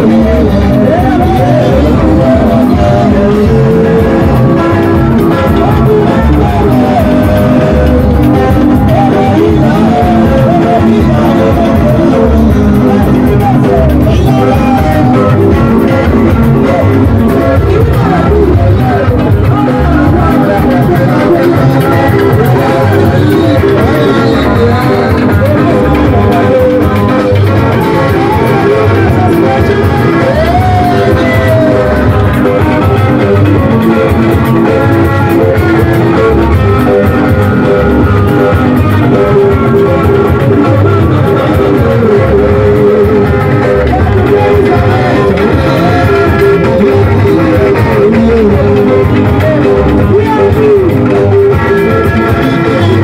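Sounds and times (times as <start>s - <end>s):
electric guitar playing: 0.0s - 53.0s
live band music: 0.0s - 53.0s.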